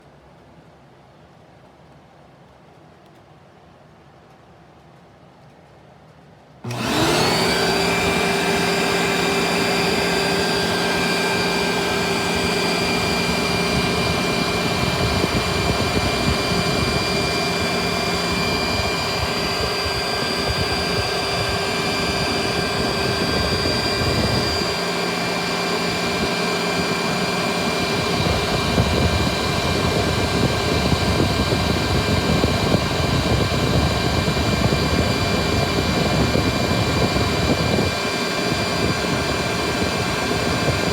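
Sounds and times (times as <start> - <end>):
vacuum cleaner motor whine: 6.6 - 40.9.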